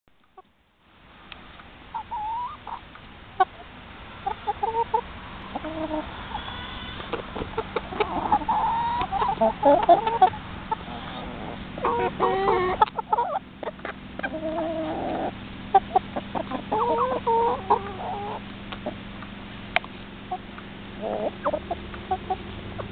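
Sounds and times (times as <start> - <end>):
hens clucking: 1.5 - 22.9.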